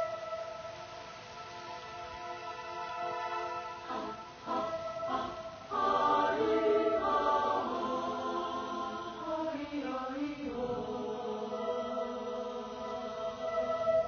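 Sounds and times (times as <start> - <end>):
choir chanting: 0.0 - 14.0
sustained held tones: 0.0 - 14.0.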